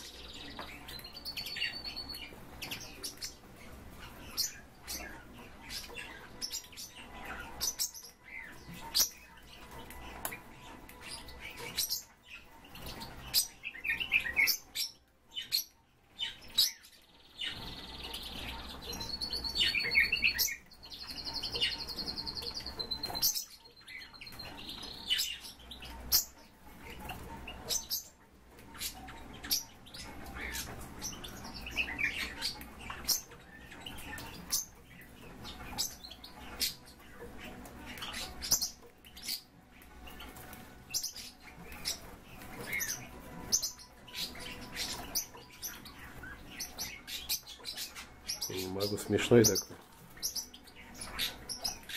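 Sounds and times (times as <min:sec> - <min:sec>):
birds chirping: 0:00.0 - 0:51.9
high pulsed bird trill: 0:00.0 - 0:51.9.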